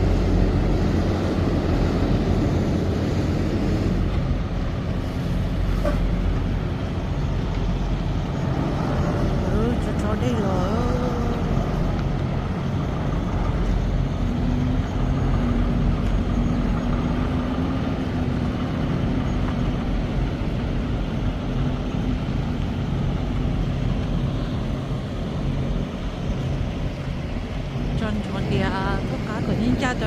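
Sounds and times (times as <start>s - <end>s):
road rumble: 0.0s - 30.0s
truck engine drone: 0.0s - 30.0s.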